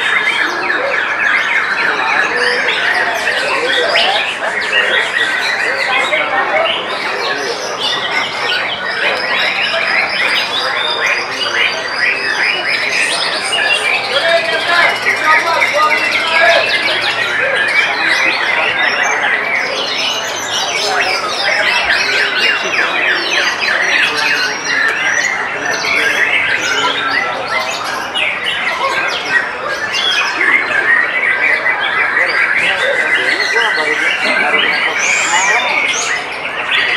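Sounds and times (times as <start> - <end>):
other birds singing: 0.0 - 36.9.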